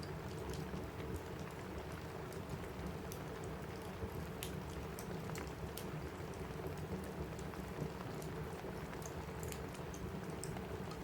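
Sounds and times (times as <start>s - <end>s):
rain on a roof: 0.0s - 11.0s
wood fire crackling: 0.0s - 11.0s.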